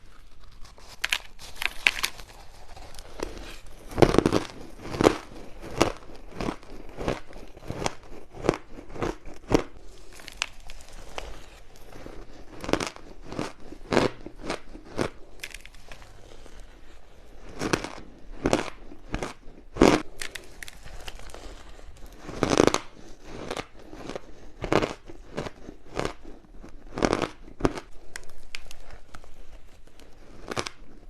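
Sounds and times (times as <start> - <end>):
ice being bitten and chewed: 0.0 - 31.0.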